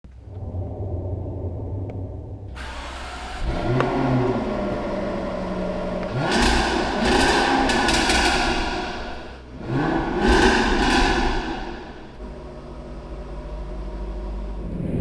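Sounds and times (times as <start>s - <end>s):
car engine revving: 0.2s - 15.0s.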